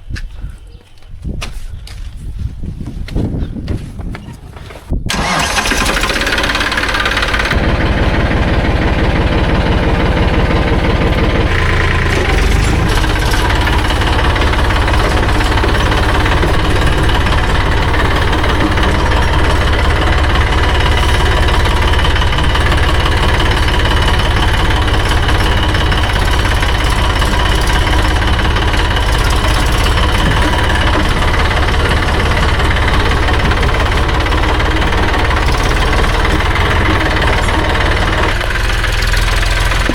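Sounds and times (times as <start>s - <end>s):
tractor diesel engine clattering: 4.1s - 39.9s.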